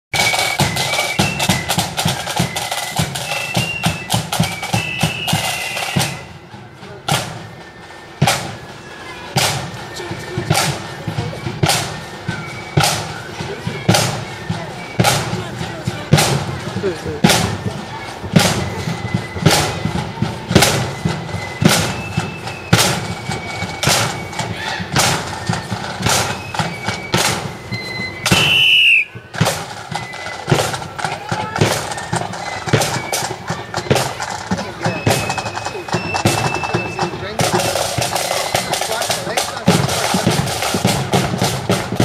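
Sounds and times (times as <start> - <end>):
marching band playing: 0.1 - 42.0
side drums beating: 0.1 - 42.0.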